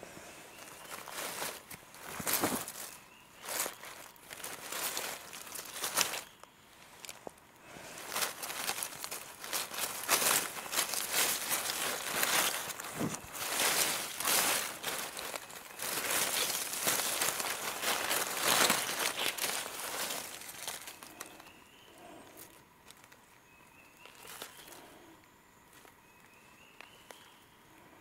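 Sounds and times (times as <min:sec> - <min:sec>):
dry leaves and feathers rustling: 0:00.0 - 0:28.0.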